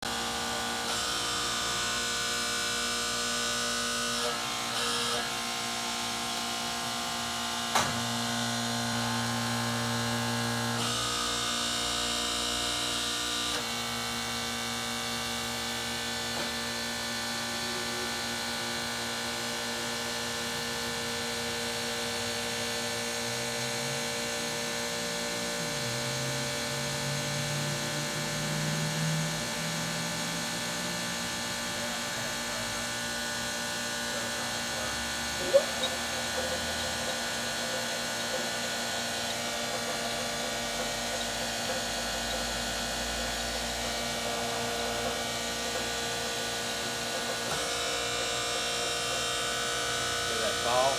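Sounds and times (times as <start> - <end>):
grinder motors humming and whining: 0.0 - 50.9.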